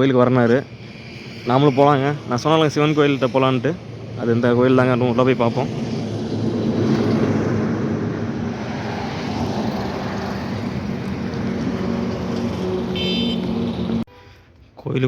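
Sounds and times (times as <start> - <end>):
highway traffic: 0.0 - 15.0.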